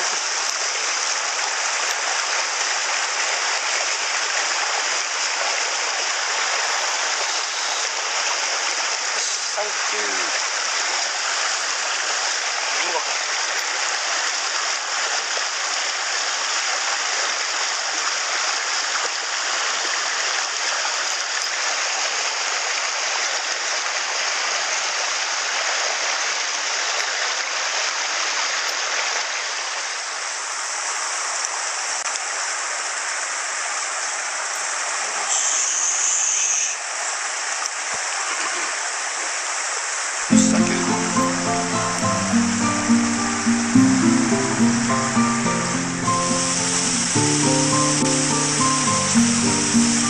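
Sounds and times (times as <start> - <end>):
stream running over rocks: 0.0 - 50.0.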